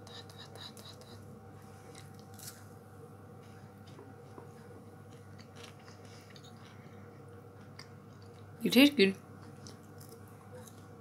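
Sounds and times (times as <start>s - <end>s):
steady low hum: 0.0s - 11.0s
person chewing crunchy pastry: 0.3s - 8.5s, 9.4s - 11.0s.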